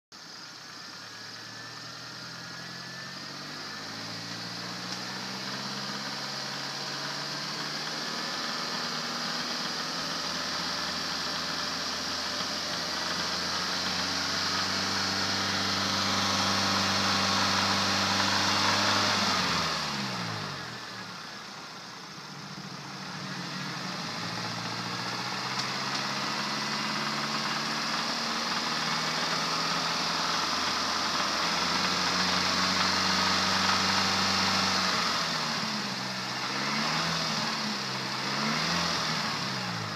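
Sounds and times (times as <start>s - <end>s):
car engine revving: 0.2s - 39.9s.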